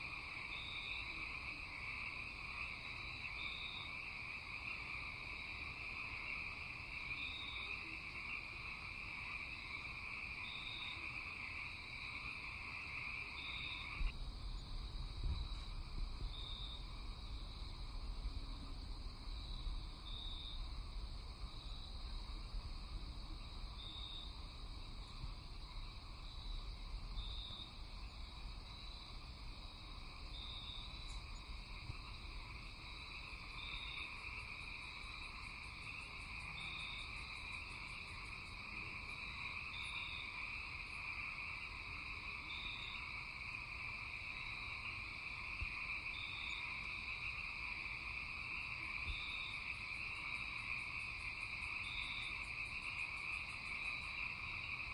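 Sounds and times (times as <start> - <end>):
crickets droning: 0.0 - 54.9
frogs: 0.0 - 54.9.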